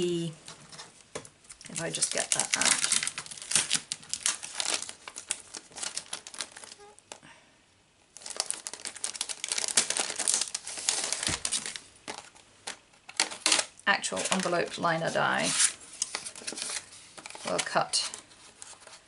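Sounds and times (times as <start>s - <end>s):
packaging crinkling and rustling: 0.5s - 7.2s, 8.1s - 19.0s.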